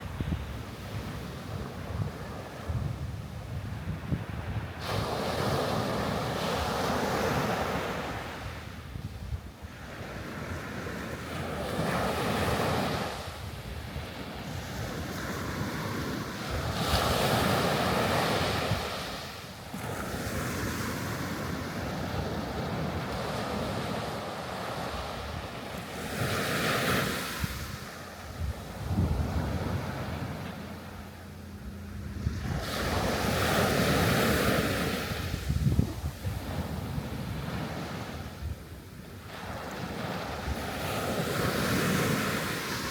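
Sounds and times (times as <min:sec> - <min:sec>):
sea waves washing ashore: 0:00.0 - 0:42.9
wind buffeting microphone: 0:00.0 - 0:42.9.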